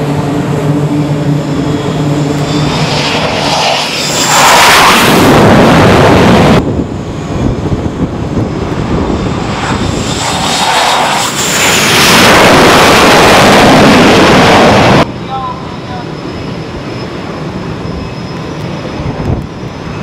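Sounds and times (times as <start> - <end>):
jet engines roaring: 0.0 - 20.0
second jet engine noise: 0.0 - 20.0.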